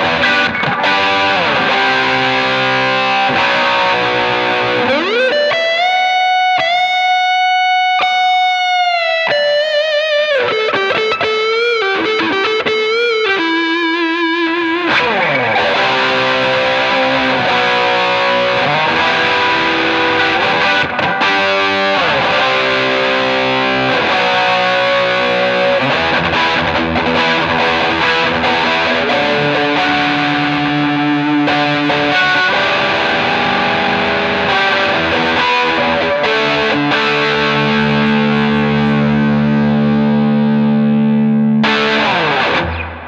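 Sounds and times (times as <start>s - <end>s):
distorted electric guitar chords: 0.0s - 43.0s.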